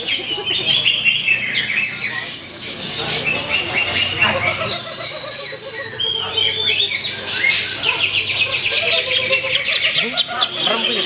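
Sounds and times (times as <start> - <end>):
bird singing whistles and trills: 0.0 - 11.0.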